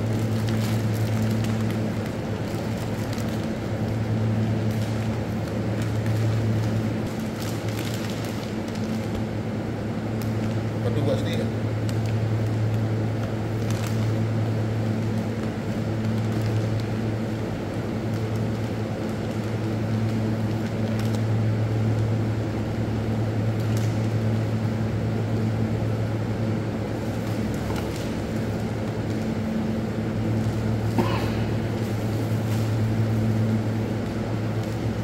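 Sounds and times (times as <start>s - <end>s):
low hum of machinery: 0.0s - 35.0s.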